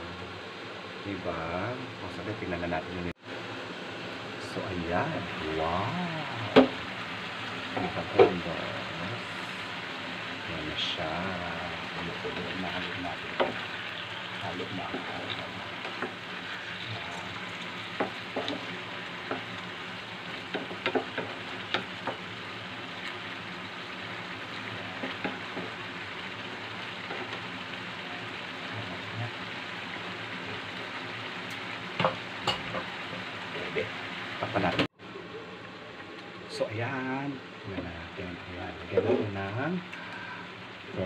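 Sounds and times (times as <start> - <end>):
food sizzling in a frying pan: 0.0 - 41.0.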